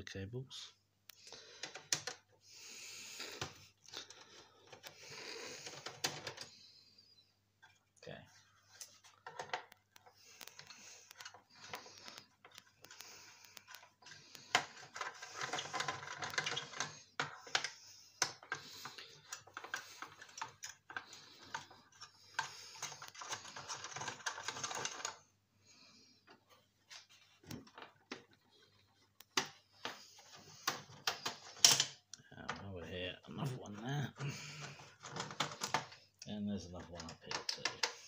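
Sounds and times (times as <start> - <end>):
computer parts clicking and rattling: 1.2 - 2.4, 3.2 - 6.7, 8.6 - 25.3, 26.4 - 32.7, 33.6 - 38.0.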